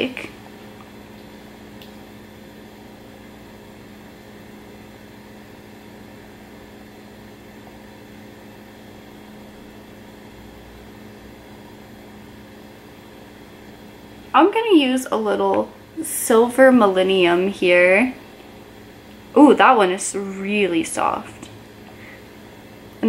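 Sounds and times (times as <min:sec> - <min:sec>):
fan hum and hiss: 0:00.0 - 0:23.0.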